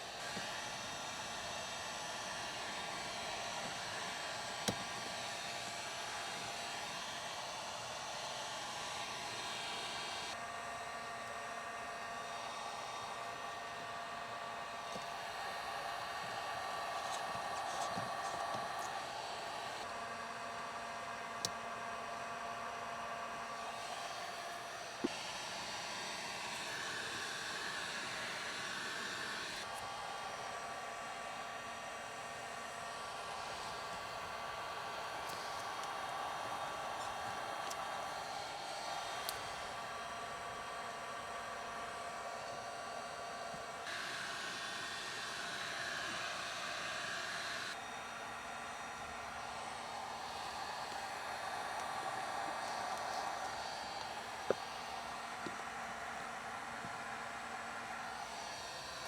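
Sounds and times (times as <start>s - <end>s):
heat gun blowing: 0.0s - 10.4s, 12.0s - 22.2s, 23.2s - 59.0s.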